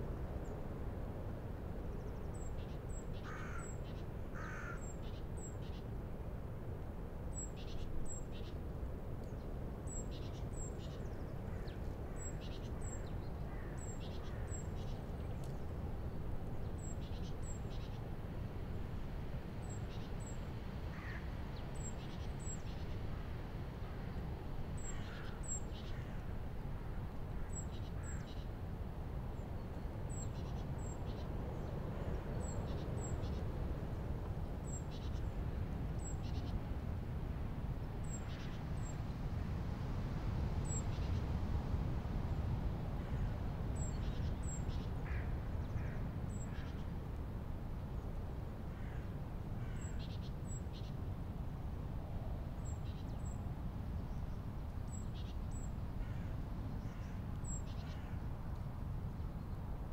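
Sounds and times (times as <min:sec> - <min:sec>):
gusty wind through branches: 0:00.0 - 0:59.9.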